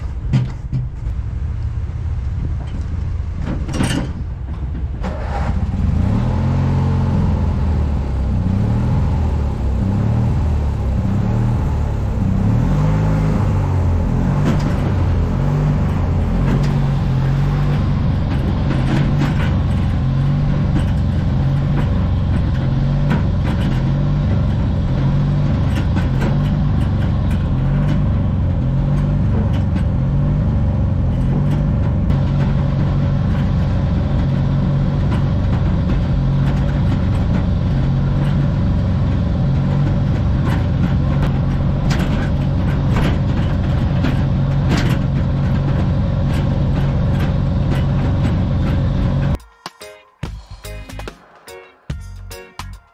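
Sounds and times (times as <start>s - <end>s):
trailer clicks and rattles: 0.0s - 49.8s
lawn mower engine running: 1.0s - 49.4s.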